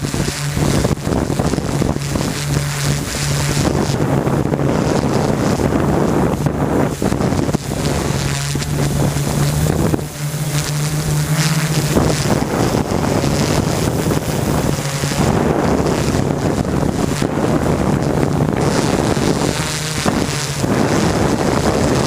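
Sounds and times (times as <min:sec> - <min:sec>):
drone propellers humming: 0:00.0 - 0:22.0
wind buffeting microphone: 0:00.0 - 0:22.0.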